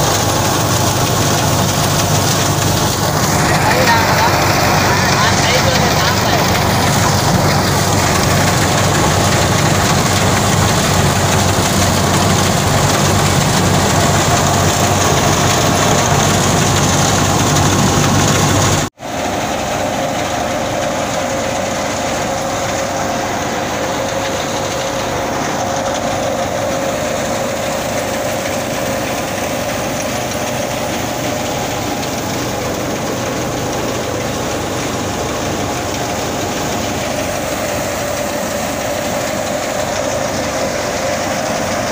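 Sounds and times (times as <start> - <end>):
wheat thresher running: 0.0 - 41.9.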